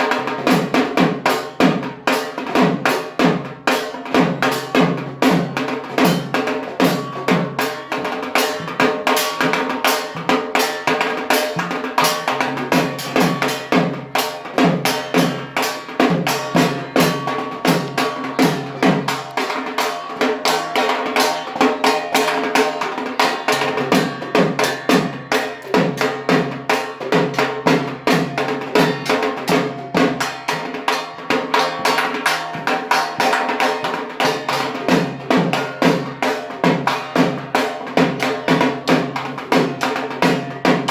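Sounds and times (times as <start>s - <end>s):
large barrel drum beaten with sticks: 0.1s - 40.9s.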